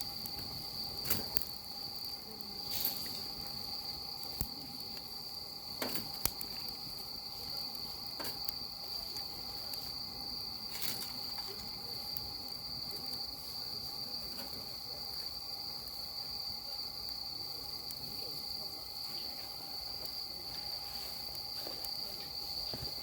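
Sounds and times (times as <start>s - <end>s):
high-pitched insect trill: 0.0s - 23.0s.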